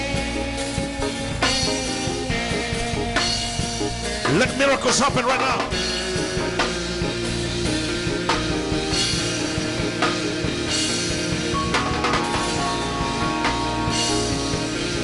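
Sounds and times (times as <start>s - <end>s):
drum kit beat: 0.0s - 15.0s
sustained held chords: 0.0s - 15.0s.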